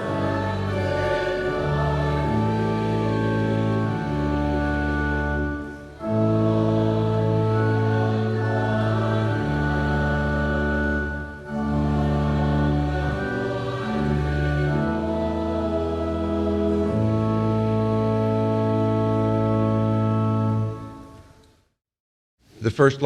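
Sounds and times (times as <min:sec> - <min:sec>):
voices singing a hymn: 0:00.0 - 0:21.0
organ accompaniment: 0:00.0 - 0:21.5.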